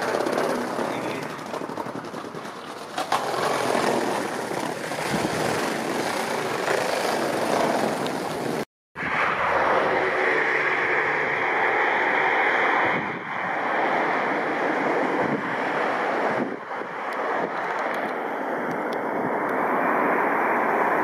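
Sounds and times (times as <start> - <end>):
rushing noise of vehicles: 0.0 - 21.0.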